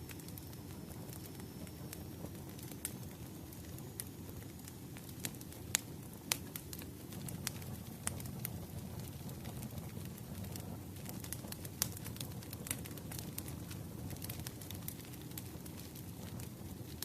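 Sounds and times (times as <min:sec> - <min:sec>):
firewood burning with crackles: 0:00.0 - 0:17.0.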